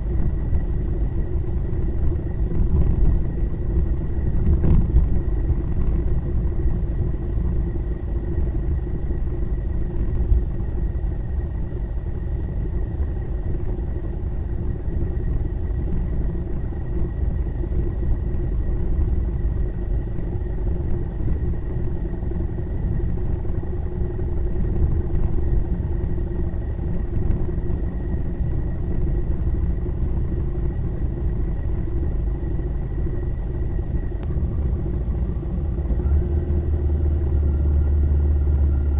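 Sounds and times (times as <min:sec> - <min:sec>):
faint high whine: 0:00.0 - 0:38.9
vehicle engine and road rumble: 0:00.0 - 0:38.9.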